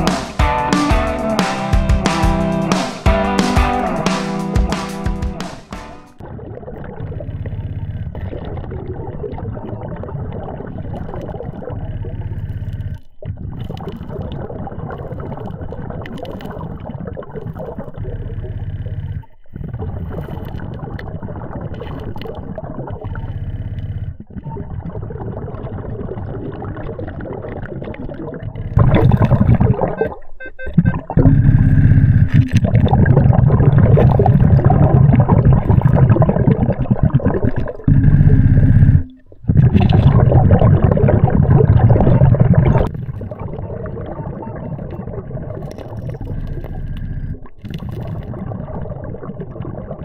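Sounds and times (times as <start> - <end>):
underwater low rumble: 6.2 - 50.0
water bubbling and gurgling: 6.2 - 50.0.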